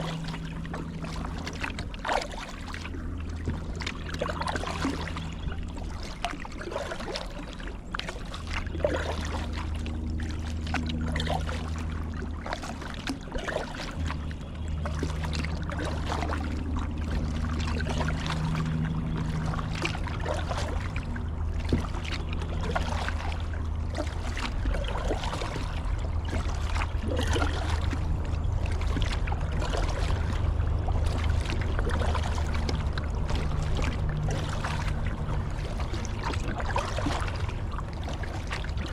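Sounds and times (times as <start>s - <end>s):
low rumble: 0.0s - 38.9s
paddle splashing water: 0.0s - 38.9s.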